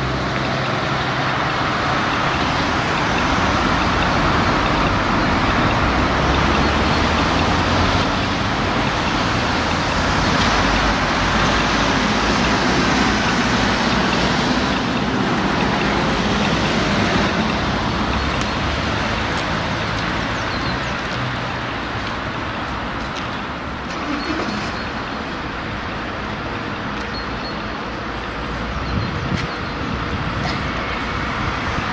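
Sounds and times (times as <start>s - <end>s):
traffic rushing hum: 0.0s - 31.9s.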